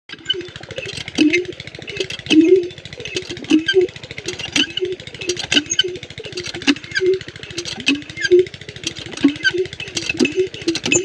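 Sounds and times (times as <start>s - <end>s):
diesel pump engine chugging: 0.1s - 11.0s.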